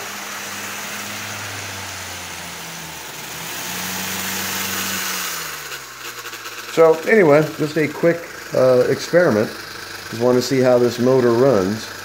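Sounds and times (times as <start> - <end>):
model aeroplane motor drone: 0.0 - 12.0.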